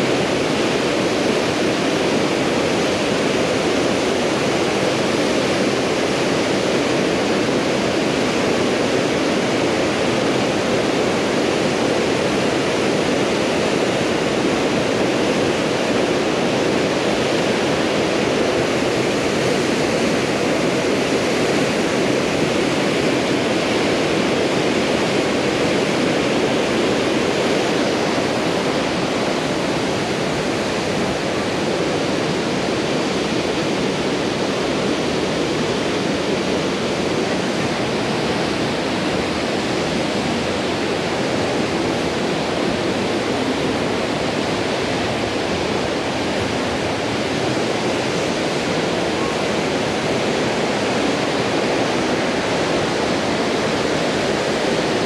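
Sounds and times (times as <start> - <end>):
waterfall and rushing stream: 0.0 - 55.0.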